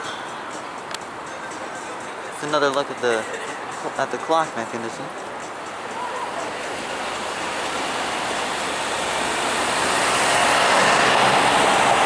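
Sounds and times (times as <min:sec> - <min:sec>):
street traffic noise: 0:00.0 - 0:12.0
vehicle approaching: 0:00.0 - 0:12.0.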